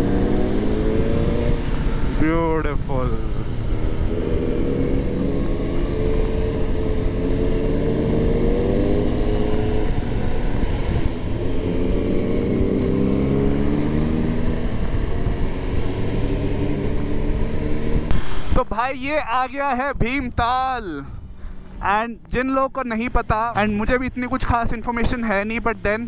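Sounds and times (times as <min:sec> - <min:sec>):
wind noise: 0:00.0 - 0:26.0.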